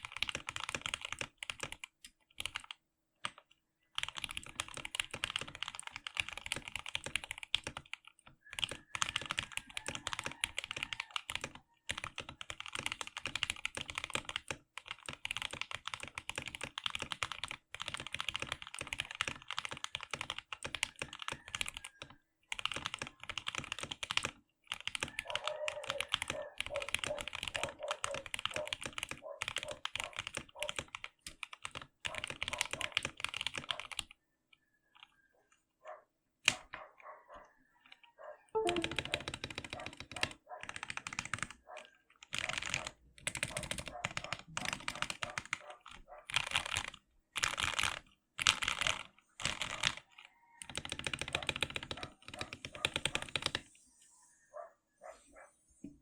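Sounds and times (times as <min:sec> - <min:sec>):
mechanical keyboard typing: 0:00.0 - 0:34.2, 0:38.6 - 0:53.6.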